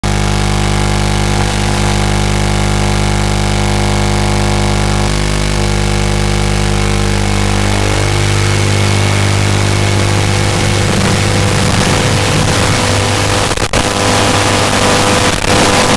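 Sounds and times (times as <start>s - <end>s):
electronic buzz: 0.0s - 15.9s
receiver hiss: 0.1s - 15.9s.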